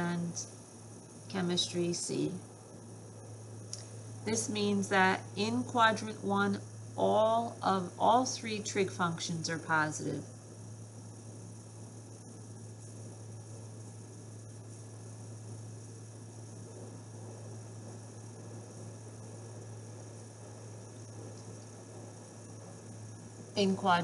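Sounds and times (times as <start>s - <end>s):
faint background hiss: 0.0s - 24.0s
low electrical hum: 0.0s - 24.0s.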